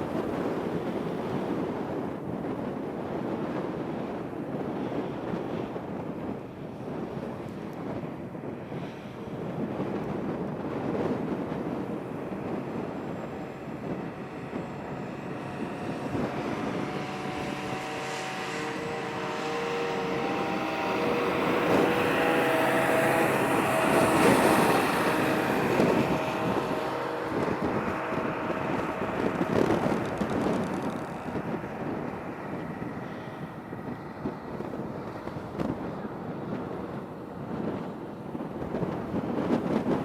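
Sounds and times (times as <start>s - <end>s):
jet airliner taking off: 0.0s - 40.0s.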